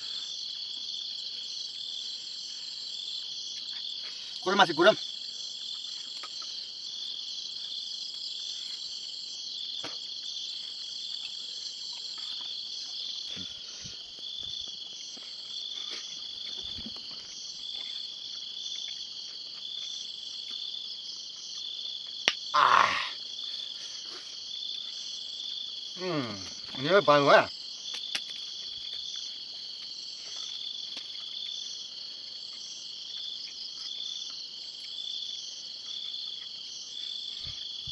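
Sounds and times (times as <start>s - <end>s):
night insects chorus: 0.0s - 37.9s.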